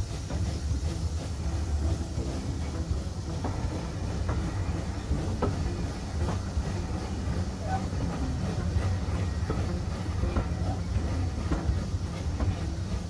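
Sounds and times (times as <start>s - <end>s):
train low rumble: 0.0s - 13.0s
wheels clicking over rail joints: 0.0s - 13.0s.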